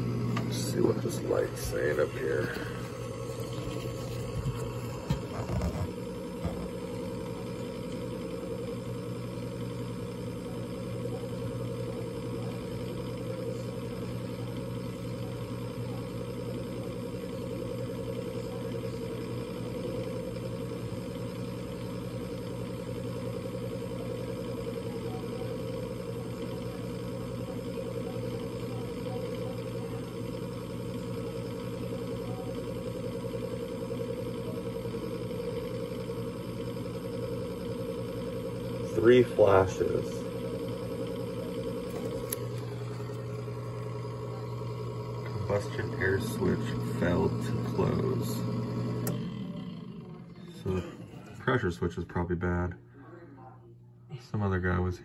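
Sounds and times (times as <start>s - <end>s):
furnace motor humming: 0.0s - 55.0s.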